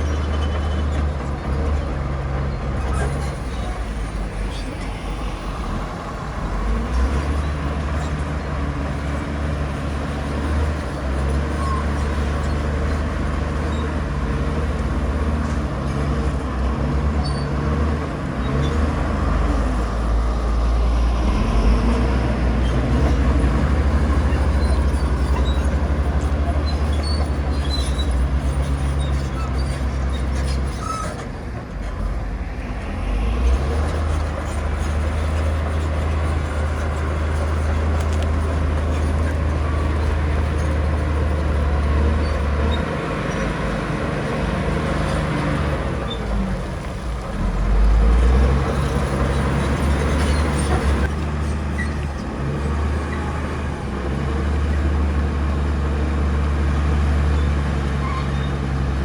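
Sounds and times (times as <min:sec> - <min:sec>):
heavy diesel machinery engine drone: 0:00.0 - 0:59.0.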